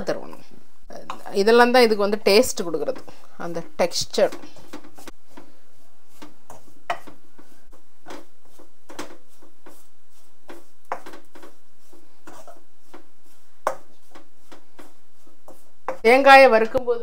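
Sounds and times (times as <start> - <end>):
wooden spatula scraping a pan: 1.0 - 16.8.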